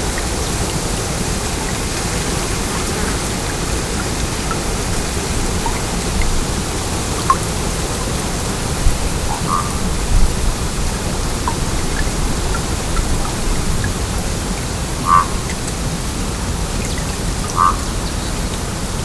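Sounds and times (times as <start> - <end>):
stream water rushing: 0.0 - 19.0
water gurgles: 0.0 - 19.0.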